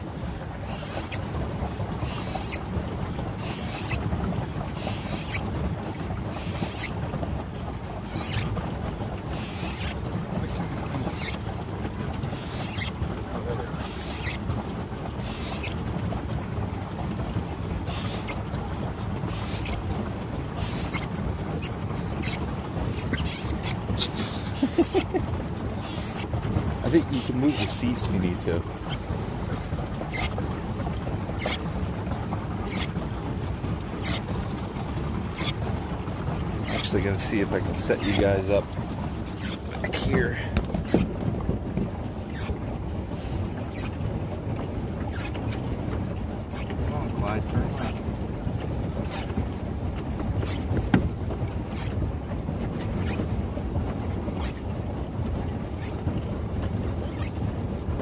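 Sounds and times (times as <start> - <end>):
paddle wheel churning water: 0.0 - 58.0
steady low rumble: 0.0 - 58.0.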